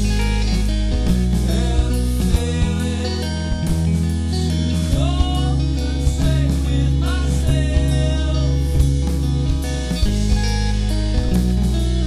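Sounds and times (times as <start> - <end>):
rock song with guitar and drums: 0.0 - 12.0
sliding guitar notes: 0.0 - 12.0.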